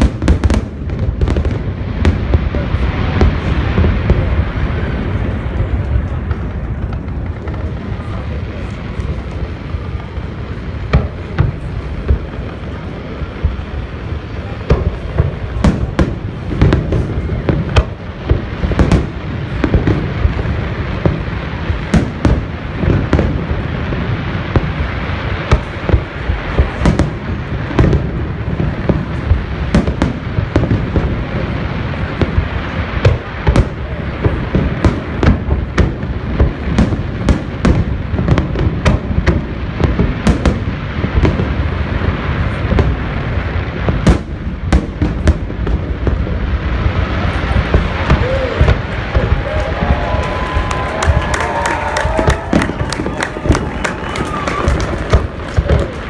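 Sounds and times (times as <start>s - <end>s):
deep rumble of booms: 0.0s - 56.0s.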